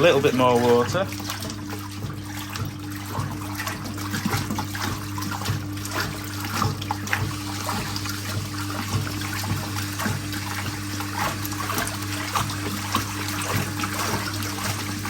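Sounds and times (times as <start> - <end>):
washing machine motor hum: 0.0 - 15.0
water trickling into tub: 0.0 - 15.0.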